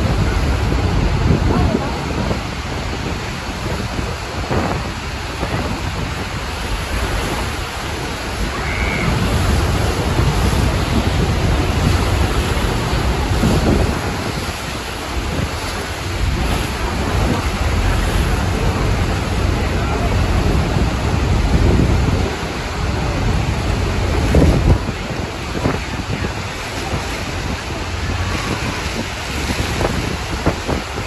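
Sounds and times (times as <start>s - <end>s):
waterfall roaring: 0.0s - 31.0s
wind rumbling on microphone: 0.0s - 31.0s.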